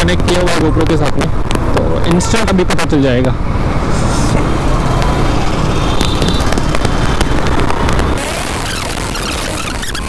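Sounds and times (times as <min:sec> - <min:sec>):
road and engine noise: 0:00.0 - 0:10.0
wind blasting on microphone: 0:00.1 - 0:10.0.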